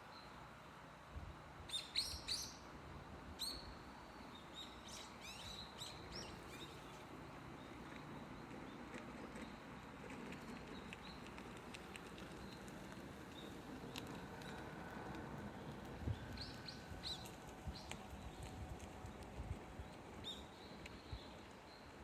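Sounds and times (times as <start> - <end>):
small birds chirping: 1.7 - 2.7, 3.4 - 22.0.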